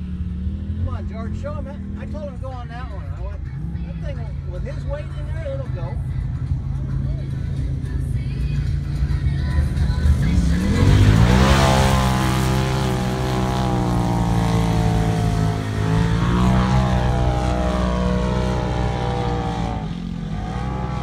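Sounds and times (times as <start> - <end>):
utv engine revving: 0.0 - 21.0.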